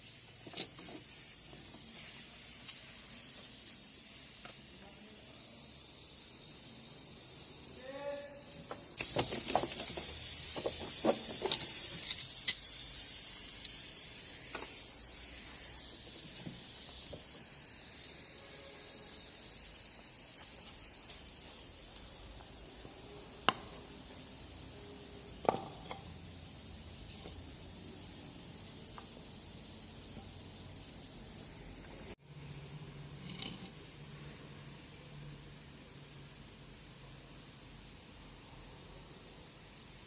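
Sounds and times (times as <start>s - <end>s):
hiss: 0.0s - 32.5s.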